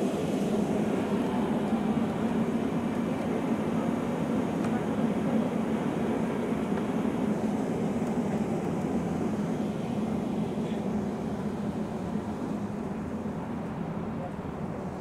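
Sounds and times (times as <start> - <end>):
tram rumble and hum: 0.0 - 15.0.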